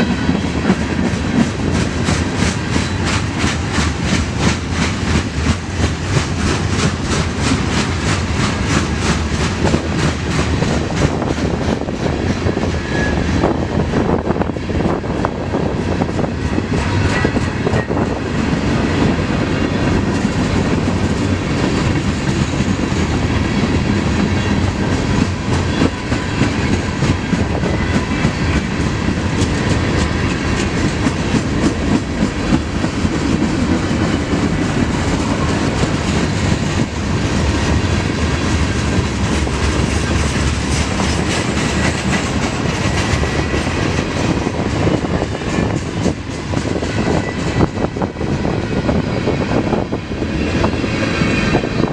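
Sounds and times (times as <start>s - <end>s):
clickety-clack over rail joints: 0.0s - 51.9s
rumble of train wheels on rail: 0.0s - 51.9s.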